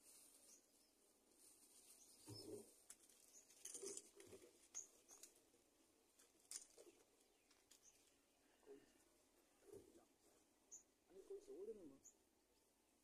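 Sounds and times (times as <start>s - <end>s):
faint rustling of twigs and feathers: 0.0s - 10.6s.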